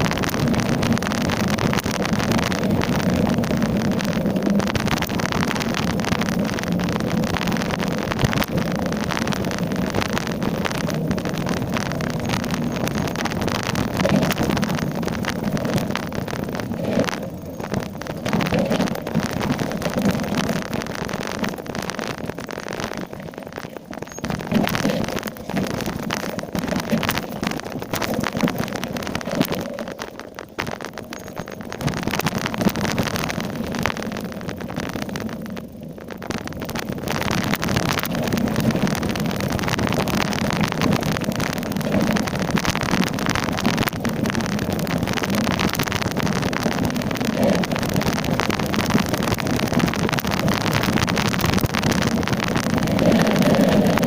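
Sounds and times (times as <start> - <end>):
bike rattling and tyre noise: 0.0 - 54.0
wind rushing over microphone: 0.0 - 54.0.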